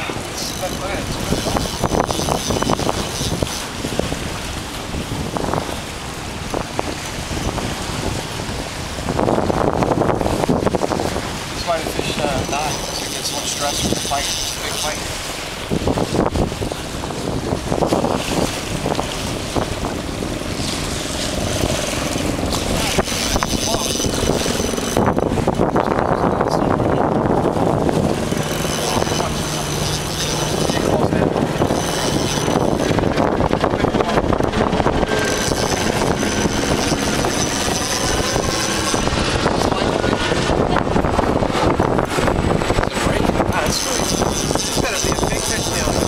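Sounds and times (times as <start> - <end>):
waves splashing against a boat: 0.0 - 46.0
wind buffeting microphone: 0.0 - 46.0.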